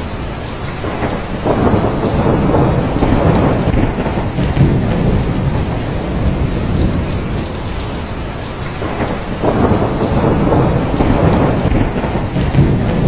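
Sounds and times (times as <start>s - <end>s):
heavy rain: 0.0s - 13.0s
rolling thunder: 0.0s - 13.0s.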